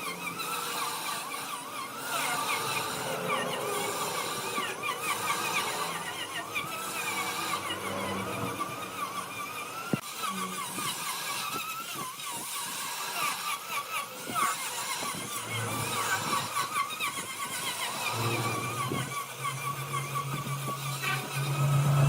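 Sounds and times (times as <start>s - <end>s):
wood lathe squealing and humming: 0.0s - 22.0s.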